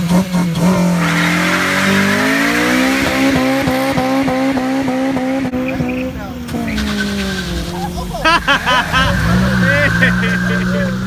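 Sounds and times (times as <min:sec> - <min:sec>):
car engine revving high: 0:00.0 - 0:11.0
tyres squealing: 0:00.8 - 0:11.0.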